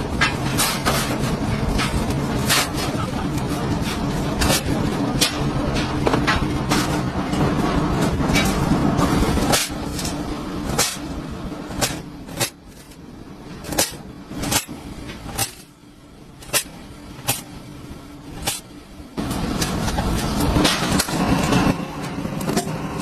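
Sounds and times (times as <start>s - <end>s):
machine drone: 0.0s - 23.0s.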